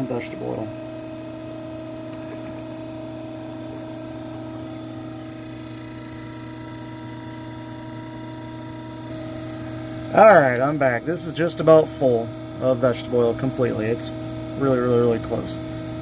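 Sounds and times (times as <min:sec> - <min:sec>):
electric pump humming: 0:00.0 - 0:16.0.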